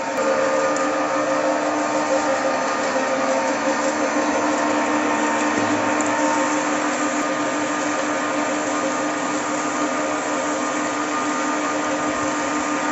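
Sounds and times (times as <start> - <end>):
oil press humming and whirring: 0.0 - 12.9.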